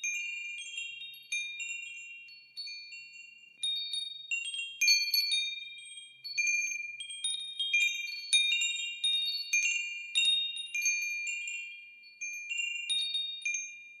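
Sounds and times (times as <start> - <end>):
wind chimes ringing: 0.0 - 14.0.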